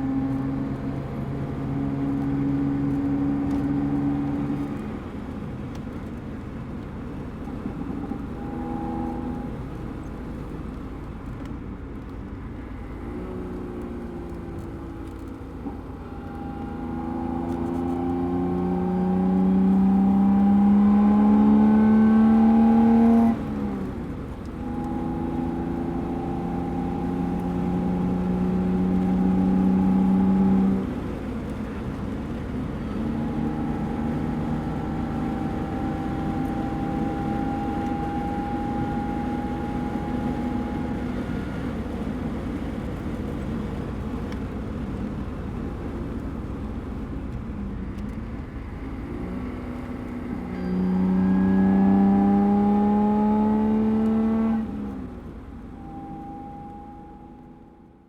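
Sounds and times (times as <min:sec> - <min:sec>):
car engine accelerating hard: 0:00.0 - 0:11.4, 0:12.8 - 0:58.0.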